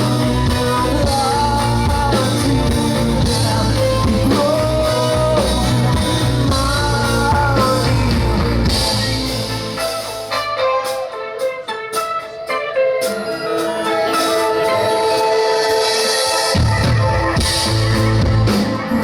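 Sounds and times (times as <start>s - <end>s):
person singing: 0.0s - 9.5s, 12.5s - 19.0s
choppy guitar: 0.0s - 19.0s
live rock band playing: 0.0s - 19.0s.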